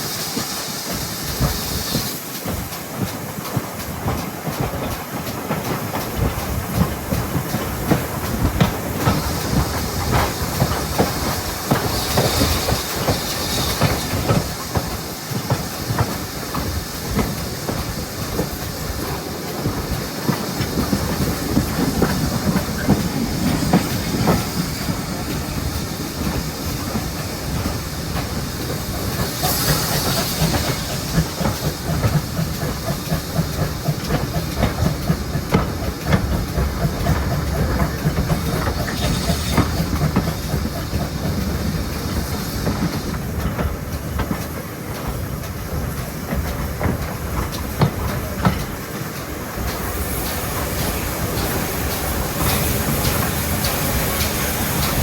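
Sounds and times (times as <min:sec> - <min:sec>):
rail clatter: 0:00.0 - 0:55.0
steam hissing: 0:00.0 - 0:55.0
steam locomotive running: 0:00.0 - 0:55.0.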